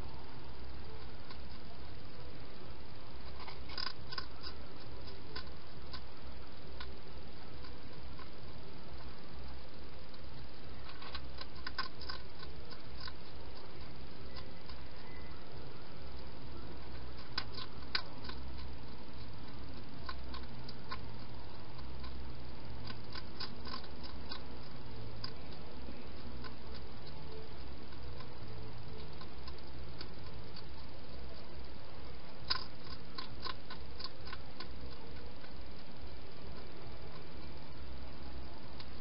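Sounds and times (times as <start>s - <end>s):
steady low hum: 0.0s - 39.0s
hedgehog chewing clicks: 0.6s - 2.2s, 3.2s - 39.0s.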